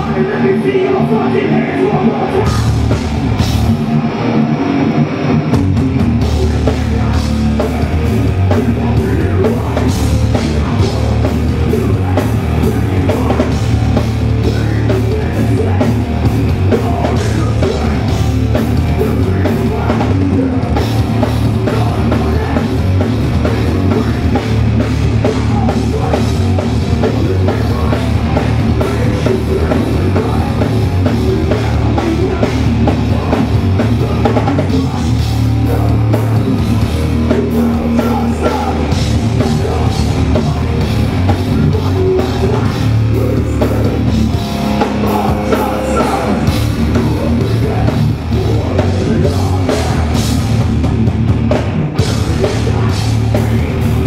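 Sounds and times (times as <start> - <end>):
drum kit: 0.0 - 54.0
hardcore punk band playing live: 0.0 - 54.0
heavy guitars: 0.0 - 54.0.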